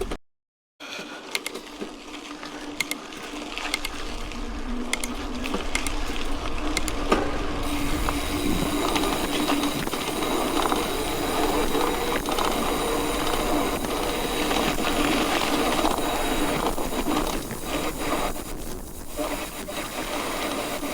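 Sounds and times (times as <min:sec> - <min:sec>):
bike clicks and rattles: 0:01.2 - 0:20.9
bike tyres on gravel: 0:01.6 - 0:20.9.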